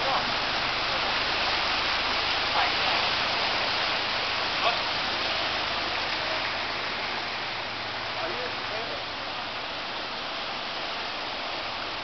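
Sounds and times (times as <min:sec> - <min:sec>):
flood water rushing and splashing: 0:00.0 - 0:12.0.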